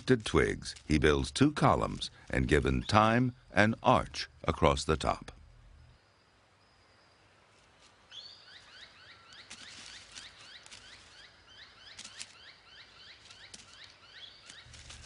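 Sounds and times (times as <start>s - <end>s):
bird chirping: 0.9s - 7.4s, 8.0s - 15.0s.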